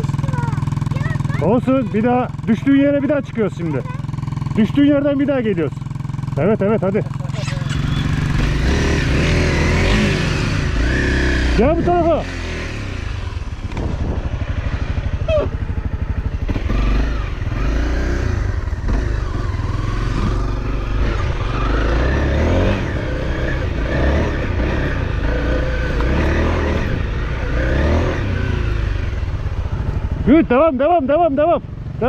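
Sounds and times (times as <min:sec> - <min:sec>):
off-road motorcycle engine revving: 0:00.0 - 0:32.0.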